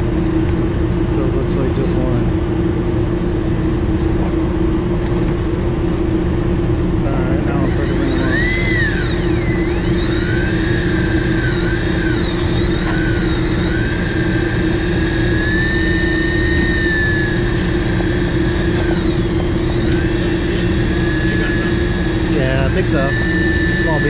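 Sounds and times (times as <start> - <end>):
fishing reel motor whining: 0.0 - 2.4, 3.8 - 24.0
boat engine drone: 0.0 - 24.0.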